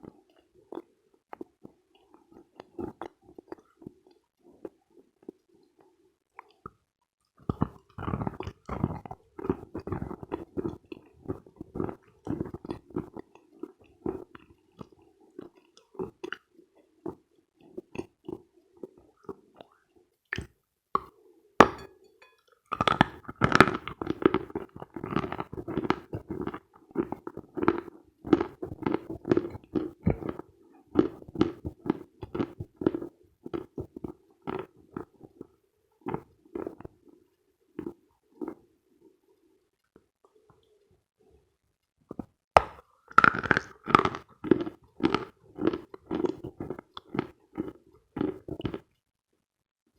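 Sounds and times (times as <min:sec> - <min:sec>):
crunching and chewing chalk: 0:00.0 - 0:06.8, 0:07.4 - 0:21.9, 0:22.7 - 0:37.2, 0:42.1 - 0:49.0.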